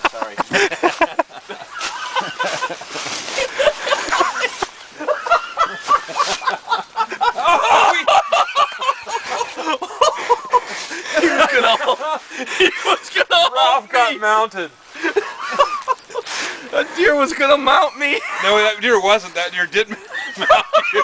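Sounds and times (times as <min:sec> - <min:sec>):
people laughing and exclaiming: 0:00.0 - 0:21.0.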